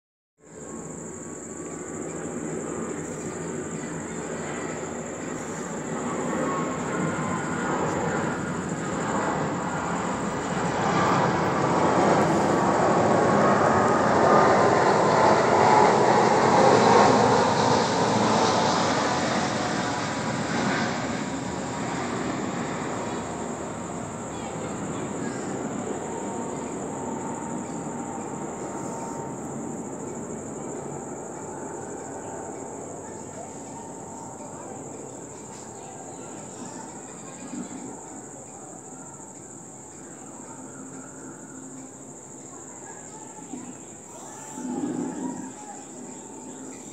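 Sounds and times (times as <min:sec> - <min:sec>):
high-pitched insect trill: 0:00.4 - 0:46.9.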